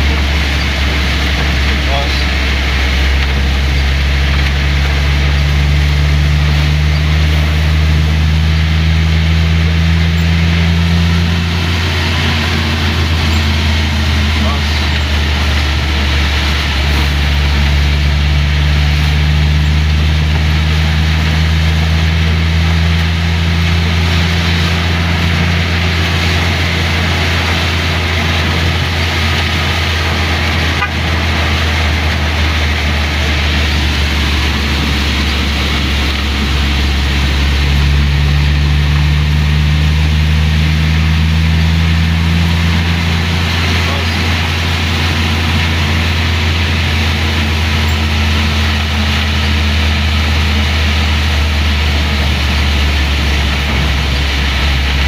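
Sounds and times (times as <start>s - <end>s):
car engine drone: 0.0s - 55.0s
heavy rain: 0.0s - 55.0s.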